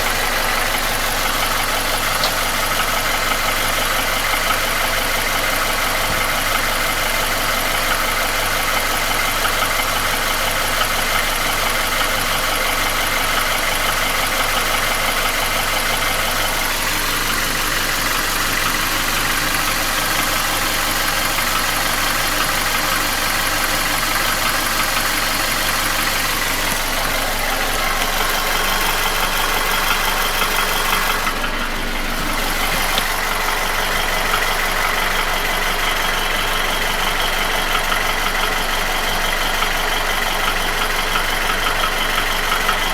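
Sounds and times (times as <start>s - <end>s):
car engine idling with knock: 0.0s - 42.9s.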